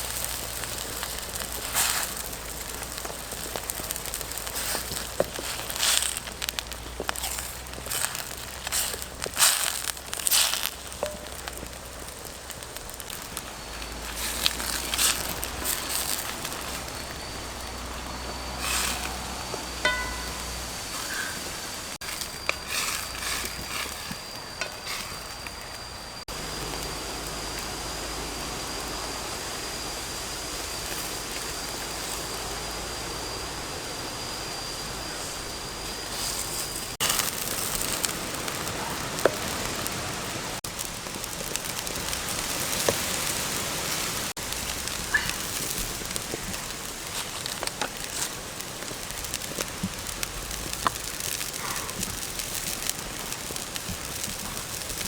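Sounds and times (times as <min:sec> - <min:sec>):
fire crackles and pops: 0:00.0 - 0:55.0
food sizzling over wood fire: 0:00.0 - 0:55.0.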